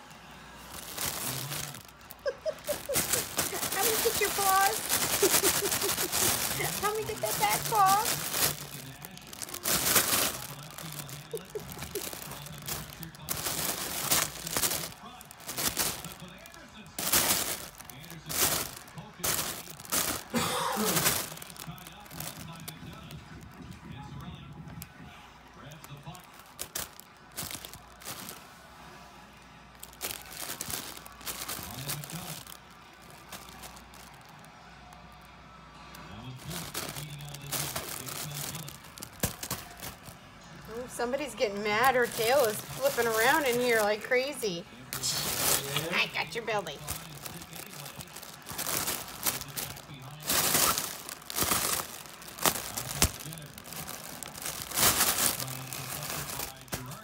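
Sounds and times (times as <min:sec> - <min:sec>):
crinkly fabric rustling: 0:00.0 - 0:24.8, 0:25.6 - 0:28.6, 0:29.7 - 0:35.3, 0:36.0 - 0:57.0.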